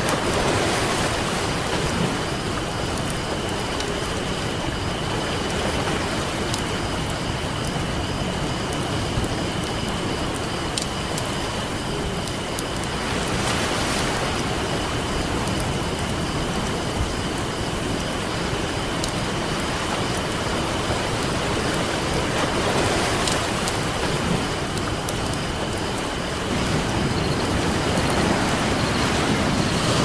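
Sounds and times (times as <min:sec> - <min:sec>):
campfire crackling: 0:00.0 - 0:30.0
ocean surf: 0:00.0 - 0:30.0.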